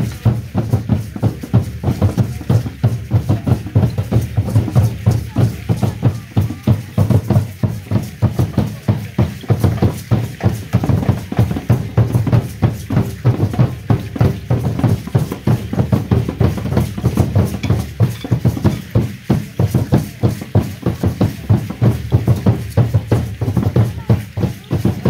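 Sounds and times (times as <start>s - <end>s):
drums beating a driving rhythm: 0.0s - 25.0s.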